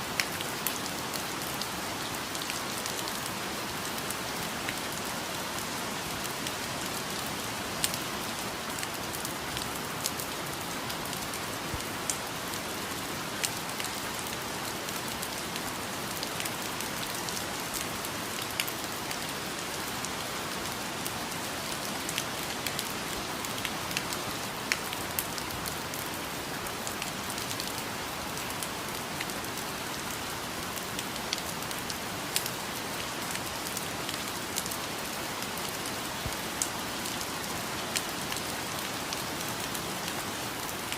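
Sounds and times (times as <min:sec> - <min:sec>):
rain pattering on foliage: 0:00.0 - 0:40.9.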